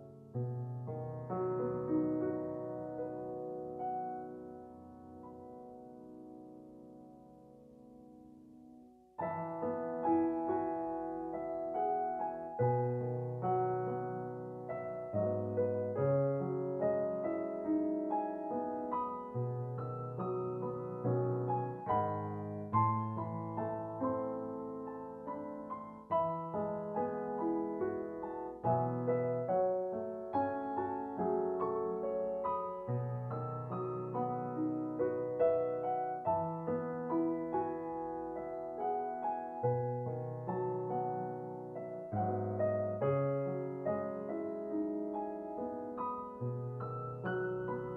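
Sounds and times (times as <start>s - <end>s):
gentle piano music: 0.0s - 47.9s.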